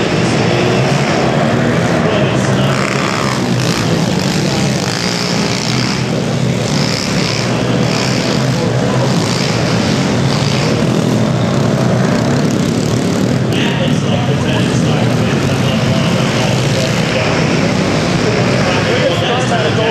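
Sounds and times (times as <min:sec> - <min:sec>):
motorbike engines buzzing: 0:00.0 - 0:19.9.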